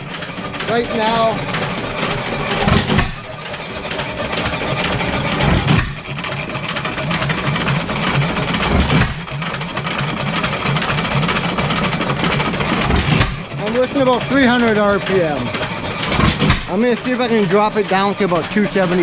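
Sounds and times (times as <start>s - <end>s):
engine firing stroke: 0.0s - 19.0s
old engine running steady beat: 0.0s - 19.0s.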